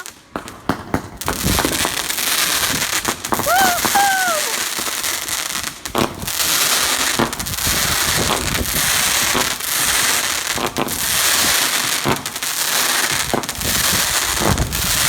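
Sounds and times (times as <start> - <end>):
fireworks banging: 0.0 - 15.0
fireworks crackling: 0.0 - 15.0.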